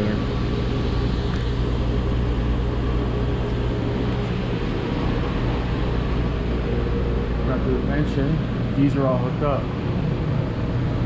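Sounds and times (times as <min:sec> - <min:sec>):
boilers and pumps humming: 0:00.0 - 0:11.0.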